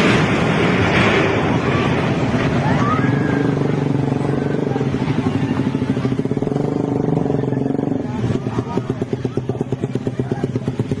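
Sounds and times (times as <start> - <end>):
engine running with rapid pulse: 0.0 - 11.0.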